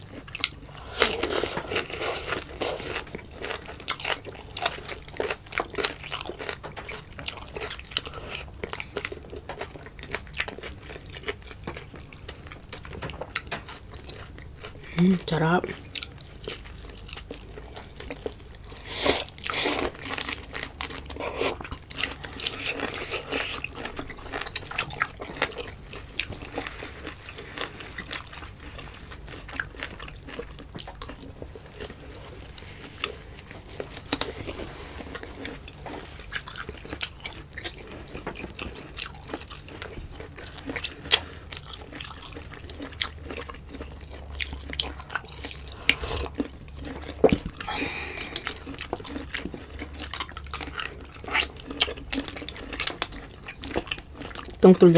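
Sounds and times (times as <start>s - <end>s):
chewing and mouth smacks: 0.0s - 54.6s.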